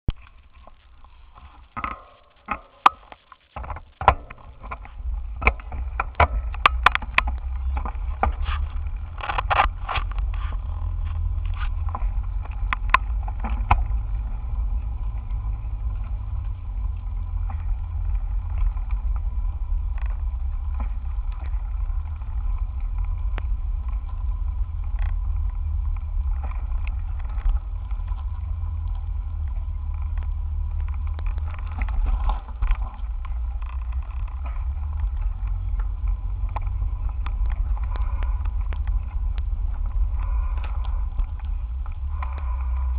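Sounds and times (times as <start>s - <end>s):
bicycle road rumble: 0.0s - 42.9s
bicycle clicks and rattles: 0.1s - 42.9s
wind on microphone: 2.8s - 42.9s.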